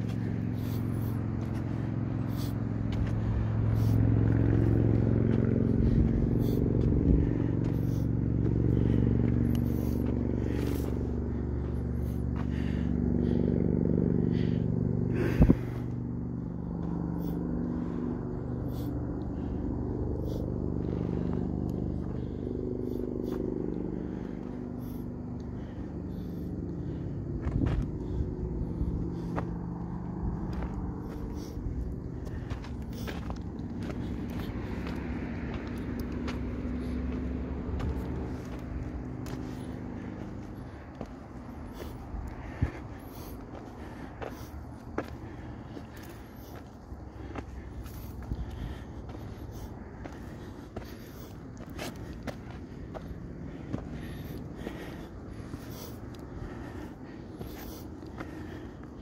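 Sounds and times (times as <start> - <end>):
distant road traffic: 0.0 - 59.0
footsteps on dirt trail: 0.0 - 59.0.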